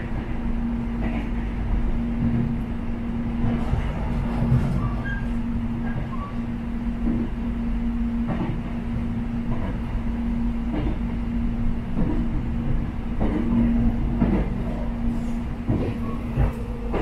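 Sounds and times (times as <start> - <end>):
constant hum: 0.0 - 17.0
train rumble: 0.0 - 17.0.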